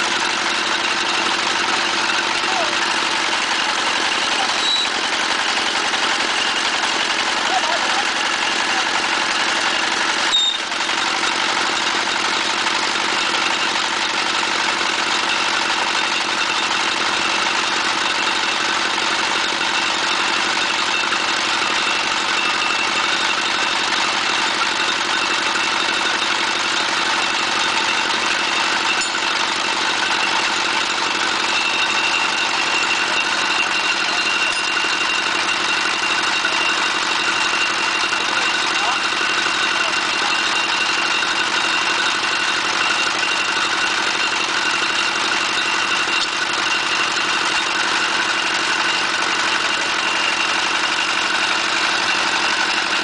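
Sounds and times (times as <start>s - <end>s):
drilling rig engine running: 0.0s - 53.0s.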